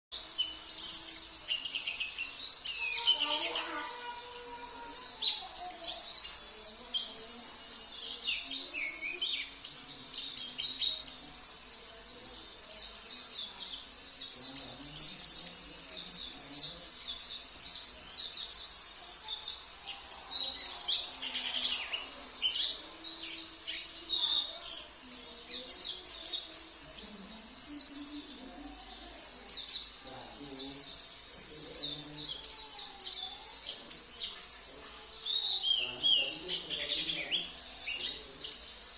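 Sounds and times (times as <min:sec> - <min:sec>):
songbirds chirping and trilling: 0:00.1 - 0:38.9.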